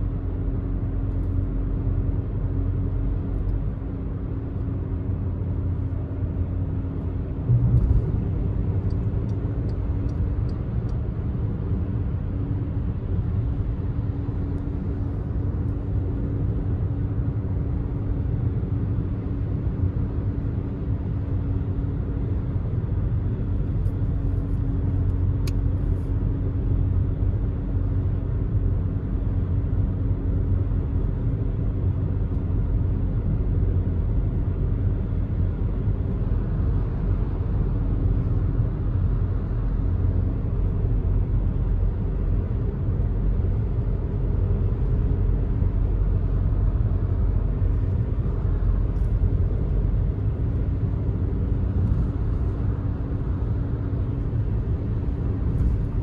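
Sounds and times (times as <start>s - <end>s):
car cabin road drone: 0.0s - 56.0s.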